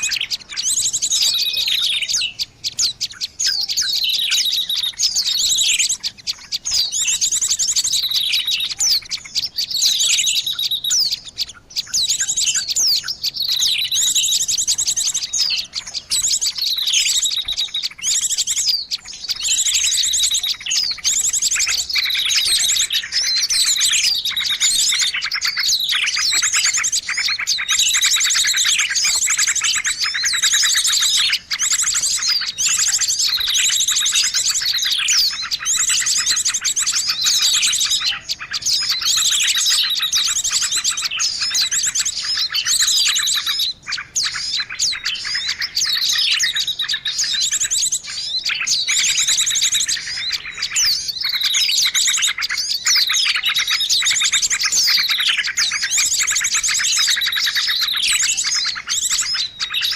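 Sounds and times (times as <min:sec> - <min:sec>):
songbird twittering trills: 0:00.0 - 0:59.9.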